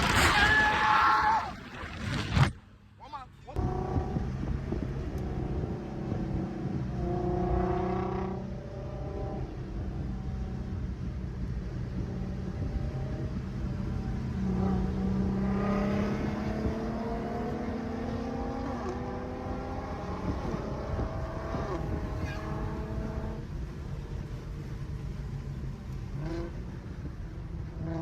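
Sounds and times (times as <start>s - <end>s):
car engine accelerating: 3.6s - 28.0s.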